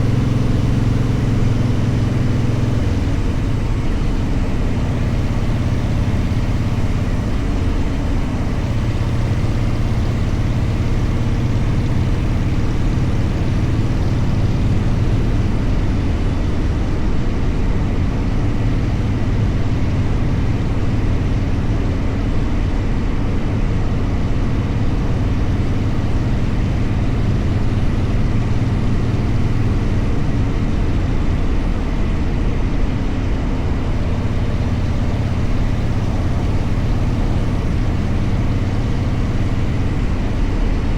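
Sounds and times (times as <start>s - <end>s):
motorcycle engine rumble: 0.0s - 40.9s.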